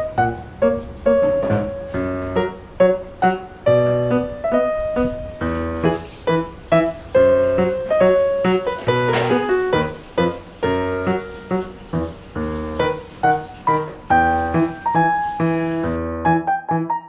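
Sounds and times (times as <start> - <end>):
bouncy piano melody: 0.0 - 17.0.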